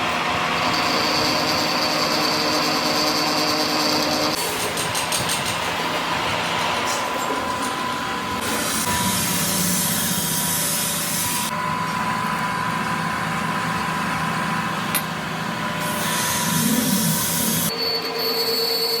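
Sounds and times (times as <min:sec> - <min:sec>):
workshop machine whine and hum: 0:00.0 - 0:19.0.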